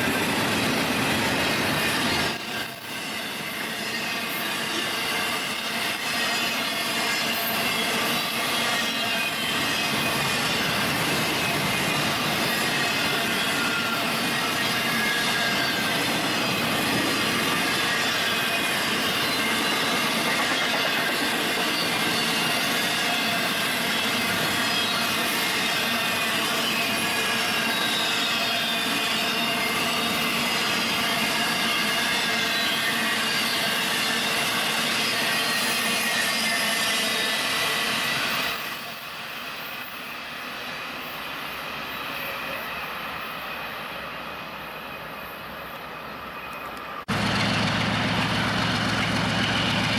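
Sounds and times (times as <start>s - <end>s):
freight train rolling past: 0.0s - 49.9s
wheels squealing on rail: 0.0s - 49.9s.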